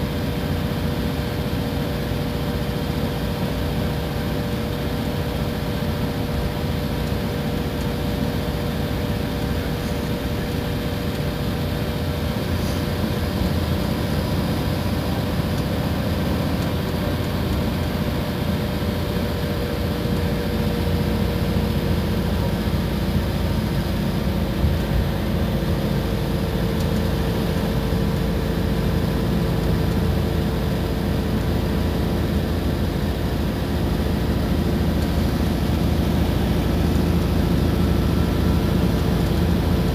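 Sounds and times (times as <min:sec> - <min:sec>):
bus engine and road drone: 0:00.0 - 0:39.9.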